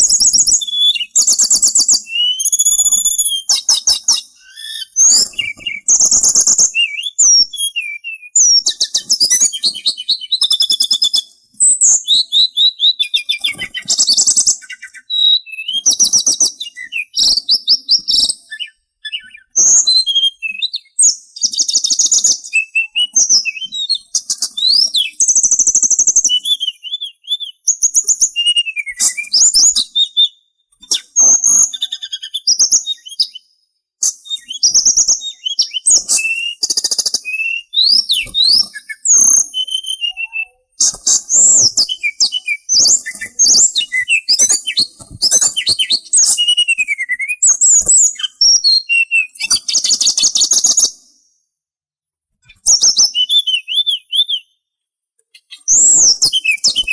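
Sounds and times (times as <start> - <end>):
songbird trilling and whistling: 0.0 - 51.2, 52.5 - 54.6, 55.3 - 56.9.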